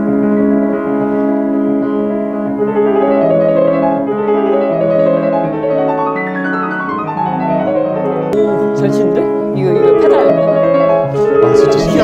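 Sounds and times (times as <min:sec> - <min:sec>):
piano chords and melody: 0:00.0 - 0:12.0.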